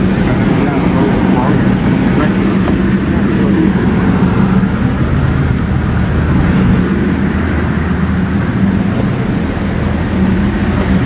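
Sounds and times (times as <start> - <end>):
ship machinery drone: 0.0 - 11.0.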